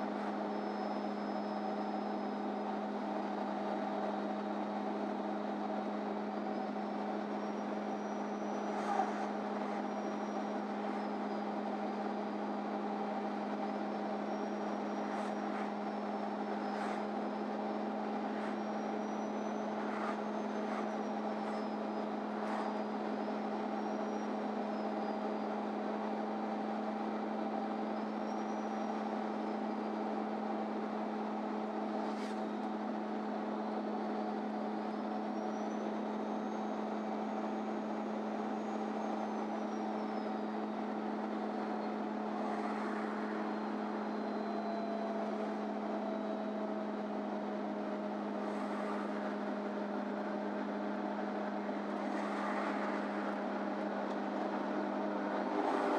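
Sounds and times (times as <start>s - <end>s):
bus cabin drone: 0.0s - 55.9s
faint high whine: 0.0s - 55.9s.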